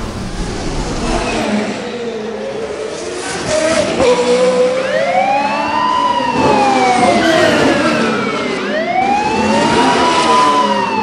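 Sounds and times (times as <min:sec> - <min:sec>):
steady background noise: 0:00.0 - 0:11.0
wailing siren: 0:01.7 - 0:11.0.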